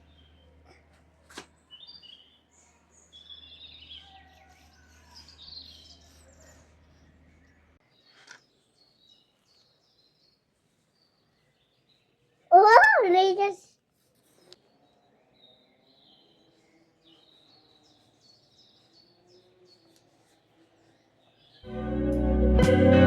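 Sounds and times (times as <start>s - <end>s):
small birds chirping: 0.0s - 21.7s.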